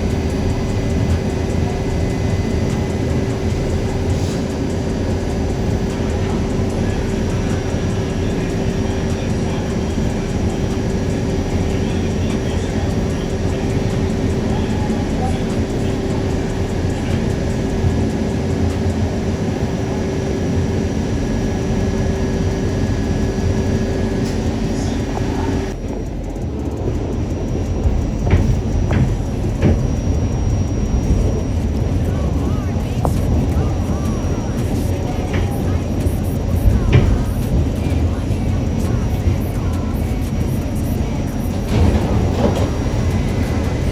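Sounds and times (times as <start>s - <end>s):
constant hum: 0.0s - 43.9s
subway train rumble: 0.0s - 43.9s.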